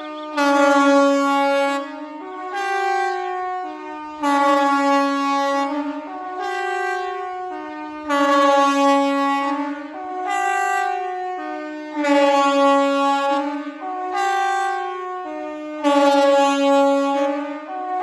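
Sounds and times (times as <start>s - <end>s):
alarm siren alternating pitch: 0.0s - 18.0s.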